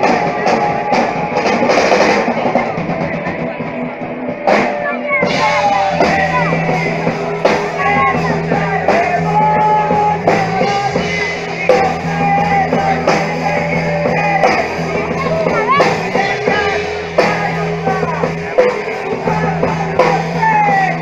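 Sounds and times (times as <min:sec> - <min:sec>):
bass line: 0:00.0 - 0:21.0
drum kit beat: 0:00.0 - 0:21.0
electric guitars: 0:00.0 - 0:21.0.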